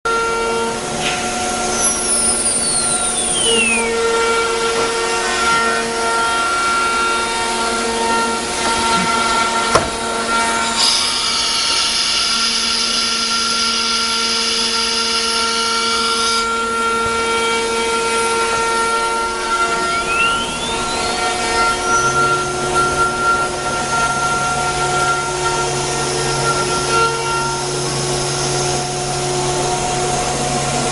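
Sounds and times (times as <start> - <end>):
machine hum: 0.1 - 30.9
router spindle whine: 0.1 - 30.9.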